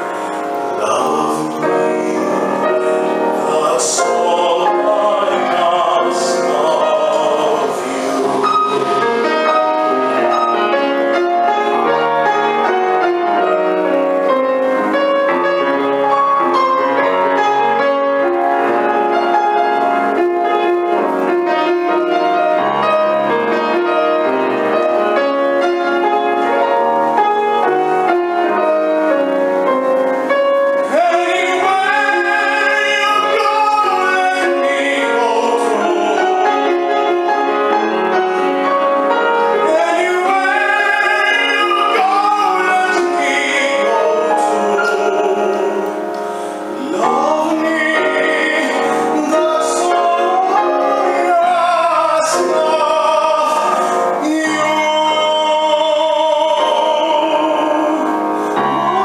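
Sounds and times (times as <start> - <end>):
grand piano playing slowly: 0.0 - 59.0
tenor singing with vibrato: 0.0 - 59.0.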